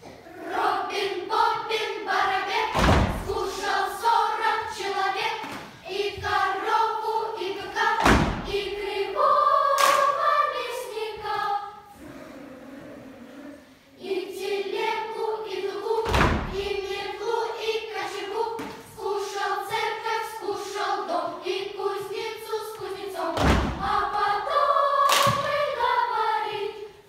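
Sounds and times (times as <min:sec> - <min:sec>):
children's choir singing: 0:00.0 - 0:27.0.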